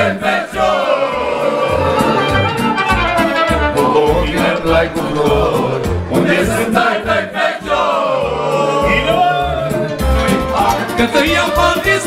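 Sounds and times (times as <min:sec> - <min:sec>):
several voices singing: 0:00.0 - 0:02.8, 0:03.6 - 0:12.0.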